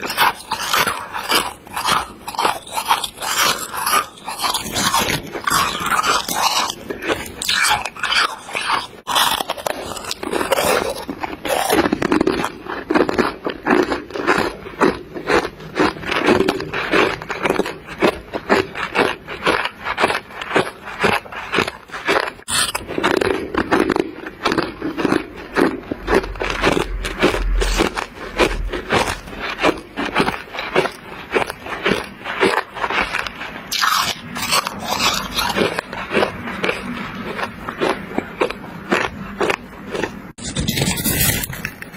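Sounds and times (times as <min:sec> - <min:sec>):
chewing icy frost crunches: 0:00.0 - 0:41.8.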